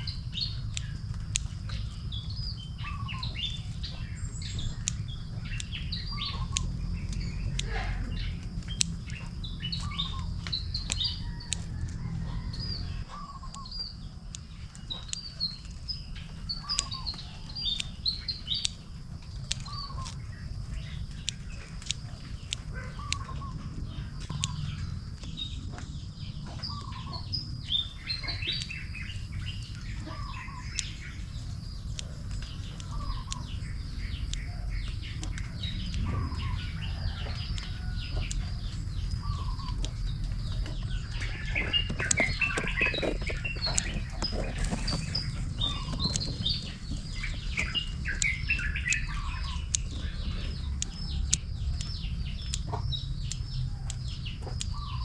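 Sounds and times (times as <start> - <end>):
birds chirping and singing: 0.0 - 55.0
sharp clicks: 0.0 - 55.0.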